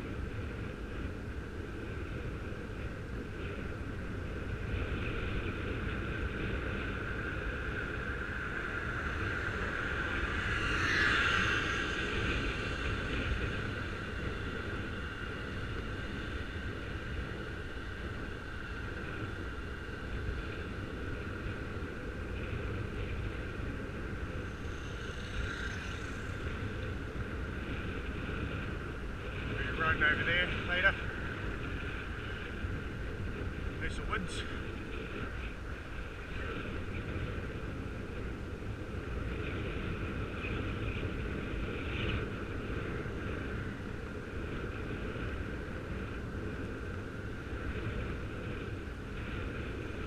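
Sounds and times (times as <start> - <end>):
bicycle humming whir: 0.0 - 50.0
wind rush on microphone: 0.0 - 50.0.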